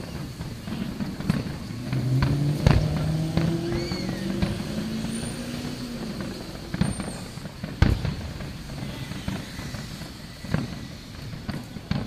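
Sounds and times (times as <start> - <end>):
background noise: 0.0 - 12.0
fireworks bursting: 0.0 - 12.0.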